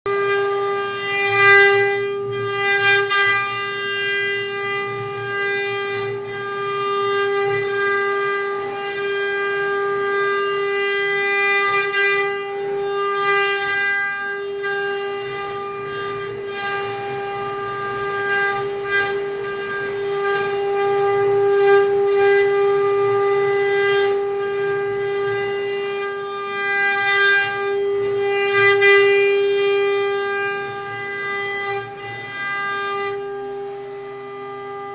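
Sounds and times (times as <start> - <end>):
router spindle whine: 0.1 - 34.9.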